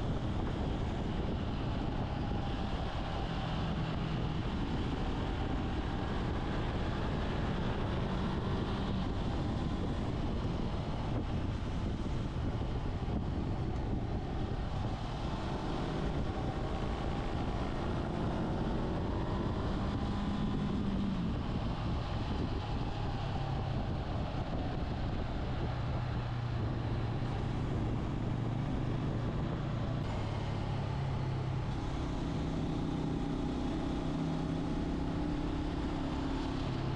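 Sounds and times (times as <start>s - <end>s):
wind noise on microphone: 0.0s - 36.9s.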